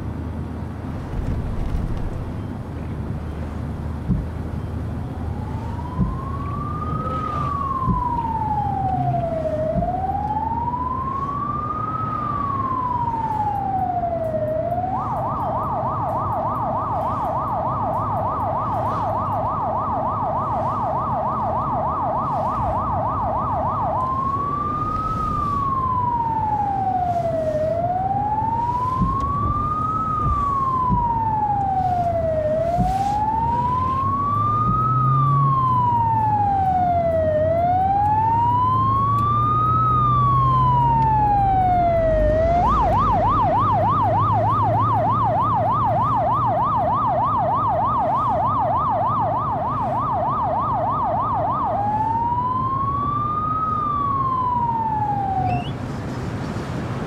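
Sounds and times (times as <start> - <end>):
engine and road rumble: 0.0 - 57.0
police siren wailing and yelping: 4.9 - 55.9.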